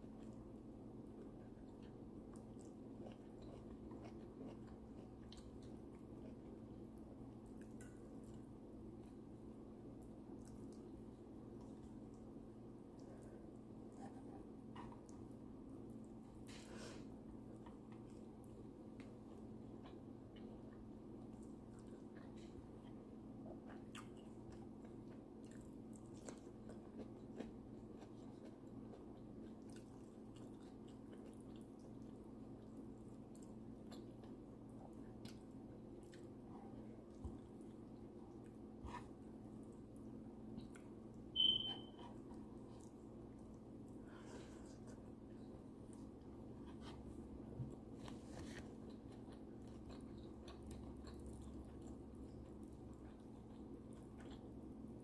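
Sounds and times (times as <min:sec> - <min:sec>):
faint chewing: 0:00.0 - 0:55.0
steady low hum: 0:00.0 - 0:55.0.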